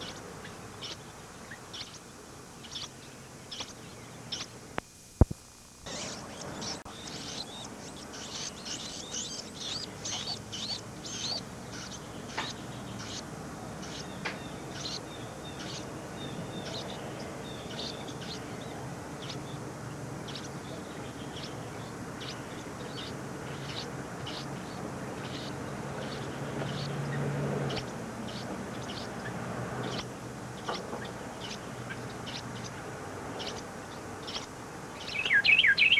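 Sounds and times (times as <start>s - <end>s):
birds chirping: 0.0s - 35.9s
steady background hiss: 0.0s - 35.9s.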